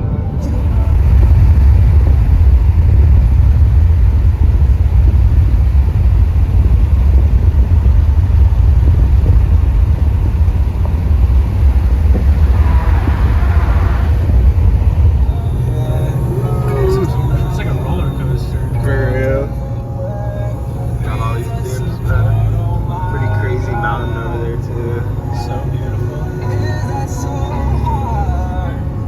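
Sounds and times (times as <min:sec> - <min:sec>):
car road and wind rumble: 0:00.0 - 0:29.0.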